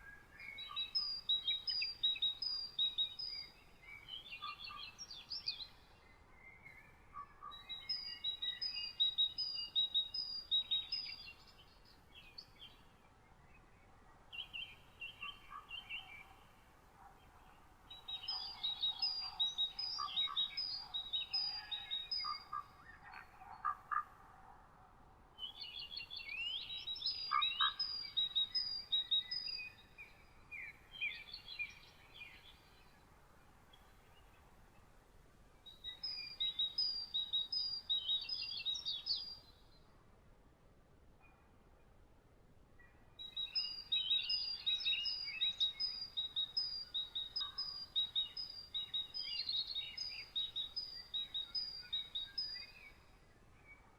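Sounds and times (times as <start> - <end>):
songbirds singing: 0.0 - 24.2, 25.4 - 40.1, 42.7 - 53.9
faint background noise: 0.0 - 53.9.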